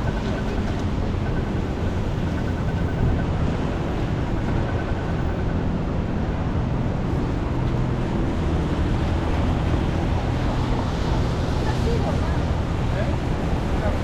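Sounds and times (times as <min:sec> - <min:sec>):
faint engine hum: 0:00.0 - 0:14.0
vehicle engines rumbling: 0:00.0 - 0:14.0.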